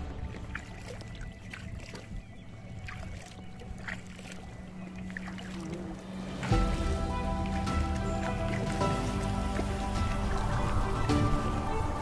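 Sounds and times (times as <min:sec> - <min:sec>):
light water splashes: 0:00.0 - 0:12.0
low hum: 0:00.0 - 0:12.0
waves lapping against a boat hull: 0:00.0 - 0:12.0.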